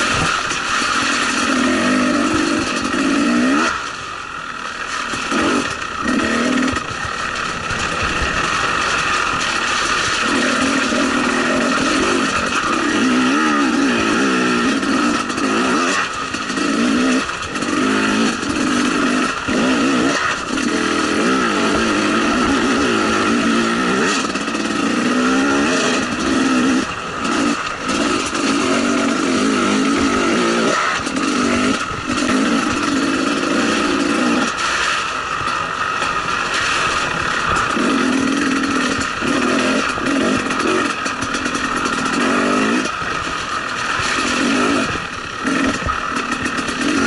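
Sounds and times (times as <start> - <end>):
two-stroke motorcycle engine revving: 0.0 - 47.0.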